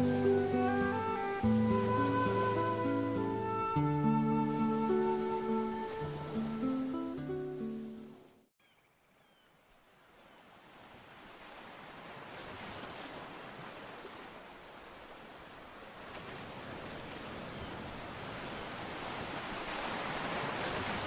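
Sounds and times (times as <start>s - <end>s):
waves breaking on a beach: 0.0s - 8.4s, 9.6s - 21.0s.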